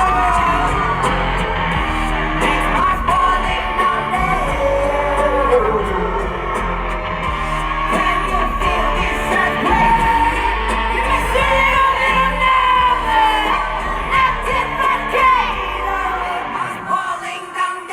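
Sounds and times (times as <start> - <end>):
heavy bass: 0.0 - 16.7
live pop-rock band: 0.0 - 17.9
wavering held vocals: 0.0 - 17.9
yelled vocals: 0.0 - 17.9.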